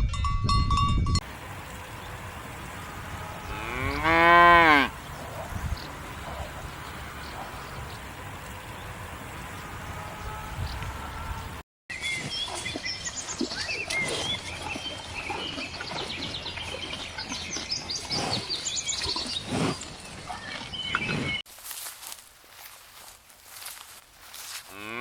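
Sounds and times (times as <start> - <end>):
outdoor background noise: 1.2 - 25.0
small birds chirping: 1.7 - 9.7, 10.6 - 25.0.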